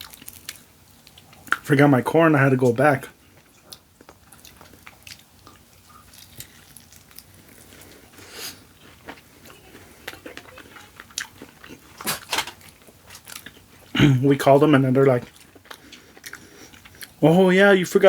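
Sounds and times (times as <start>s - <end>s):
chewing and biting food: 0.0s - 1.7s, 3.2s - 14.0s, 15.2s - 17.2s.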